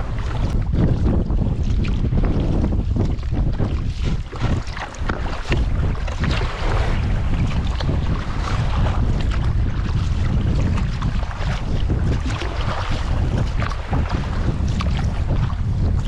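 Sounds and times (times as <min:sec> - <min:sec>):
water splashing: 0:00.0 - 0:16.0
wind buffeting microphone: 0:00.0 - 0:16.0.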